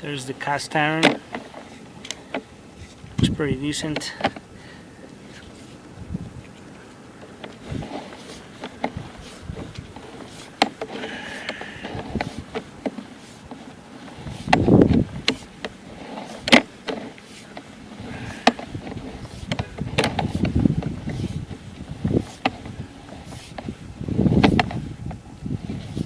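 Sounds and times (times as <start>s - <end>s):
cable clicking and rubbing: 0.4s - 26.0s.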